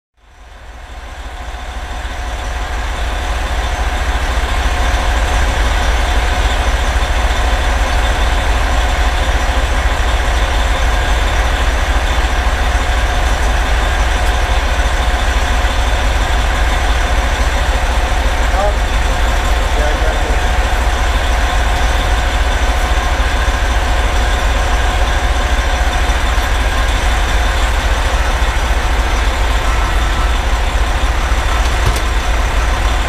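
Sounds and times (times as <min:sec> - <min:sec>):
diesel engine idling: 0:00.2 - 0:33.0.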